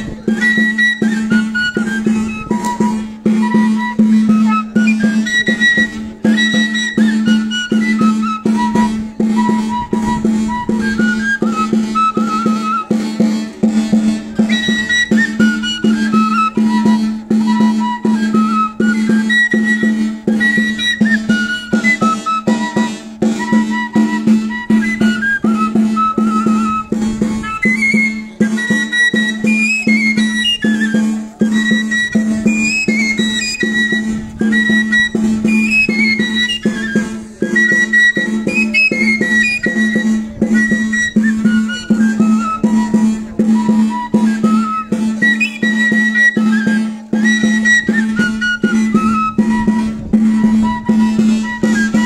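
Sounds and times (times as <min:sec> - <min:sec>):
high wind instrument melody: 0:00.0 - 0:52.0
live band playing folk tune: 0:00.0 - 0:52.0
quick percussion beats: 0:00.0 - 0:52.0.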